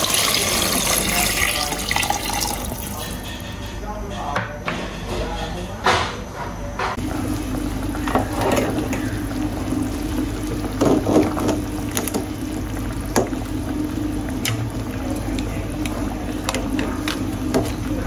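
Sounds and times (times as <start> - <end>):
broth bubbling in a pot: 0.0 - 3.6, 7.0 - 18.0.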